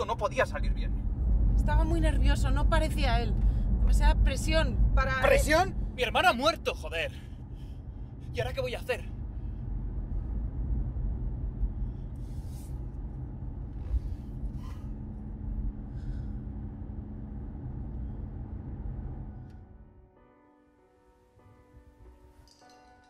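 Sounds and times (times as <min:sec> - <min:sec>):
road and engine rumble in car: 0:00.0 - 0:19.9.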